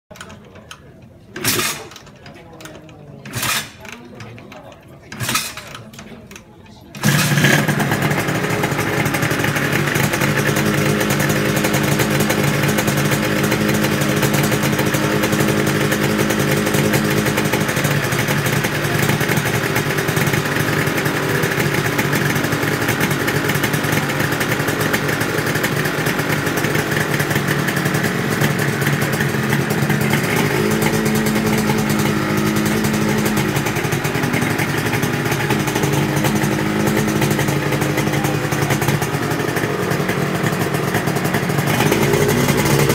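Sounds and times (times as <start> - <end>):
two-stroke motorcycle engine running: 1.4 - 4.4, 5.1 - 6.1, 6.9 - 42.9.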